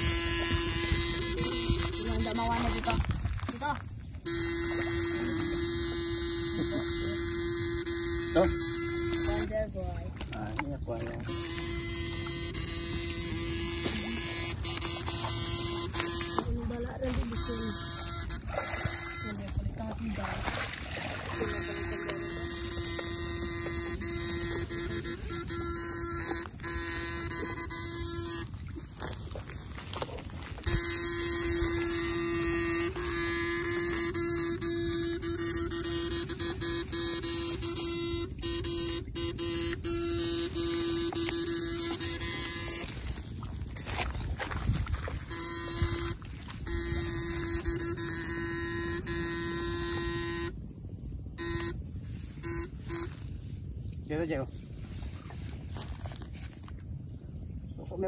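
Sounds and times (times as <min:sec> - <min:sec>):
steady electric buzz: 0:00.0 - 0:54.5.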